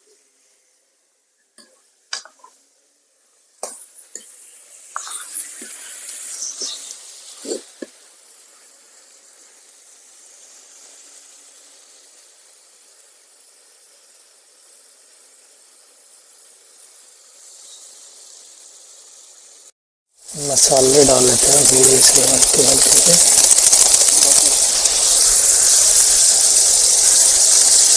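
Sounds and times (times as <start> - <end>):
meat sizzling in hot oven: 3.4 - 27.9.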